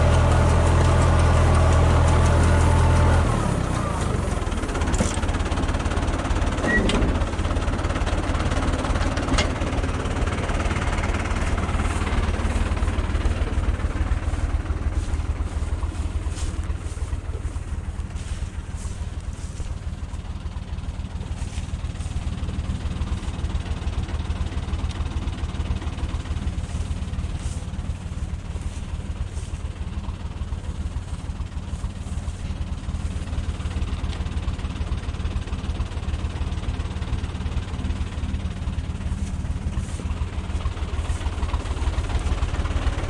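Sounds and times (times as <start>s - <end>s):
tractor engine droning: 0.0s - 43.0s.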